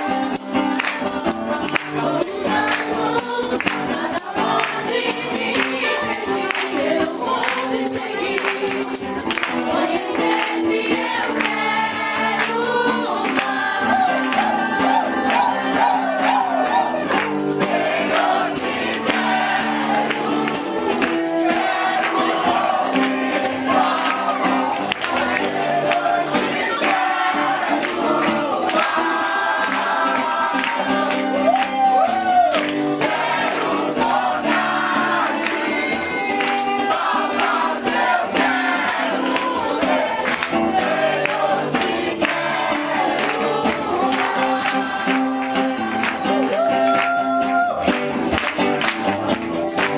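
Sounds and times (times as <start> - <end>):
shaken percussion beat: 0.0 - 49.9
voices singing together: 0.0 - 49.9.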